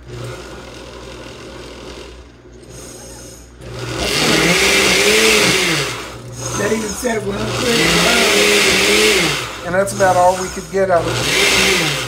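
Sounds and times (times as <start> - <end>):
electric blender running: 0.0 - 12.0.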